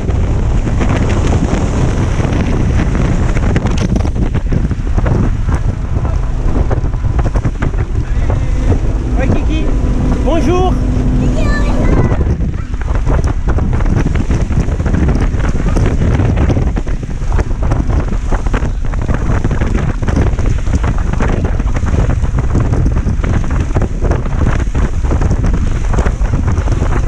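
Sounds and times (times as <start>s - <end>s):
boat motor: 0.0s - 27.0s
rushing boat wake: 0.0s - 27.0s
wind buffeting microphone: 0.0s - 27.0s.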